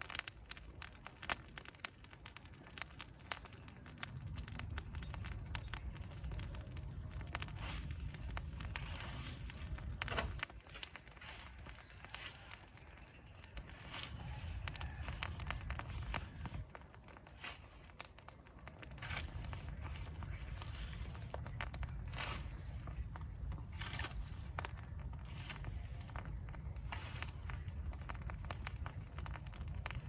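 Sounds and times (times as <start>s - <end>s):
low rumble of breeze: 0.0s - 30.0s
straw and leaves burning crackling: 0.0s - 30.0s.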